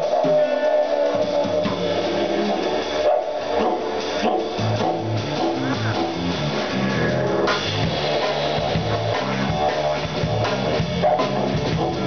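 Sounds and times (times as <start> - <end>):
didgeridoo: 0.0 - 12.0
live rock band groove: 0.0 - 12.0.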